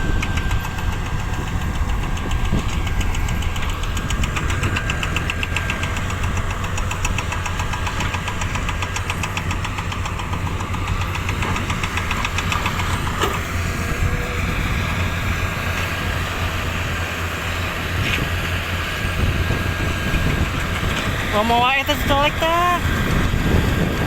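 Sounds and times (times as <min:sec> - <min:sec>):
diesel engine running: 0:00.0 - 0:24.0
engine clatter: 0:00.0 - 0:24.0.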